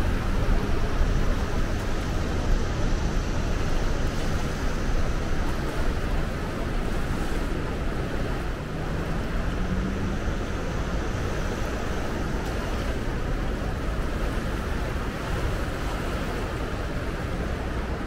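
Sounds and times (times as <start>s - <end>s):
floodwater rushing: 0.0s - 18.0s
wind rumbling on microphone: 0.0s - 18.0s.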